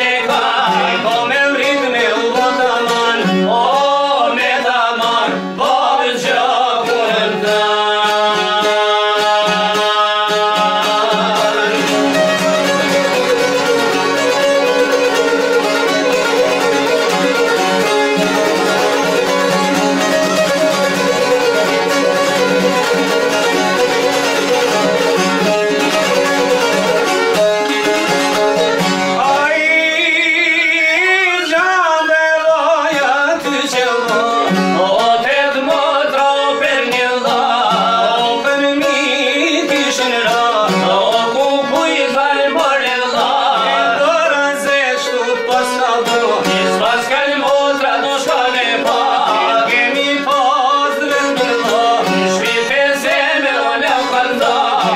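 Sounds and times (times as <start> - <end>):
man singing: 0.0 - 54.9
plucked lutes and violin: 0.0 - 54.9.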